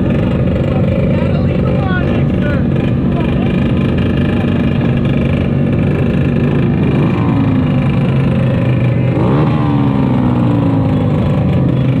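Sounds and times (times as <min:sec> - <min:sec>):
mini motorcycles idling: 0:00.0 - 0:12.0
motorcycle engine revving: 0:00.0 - 0:12.0.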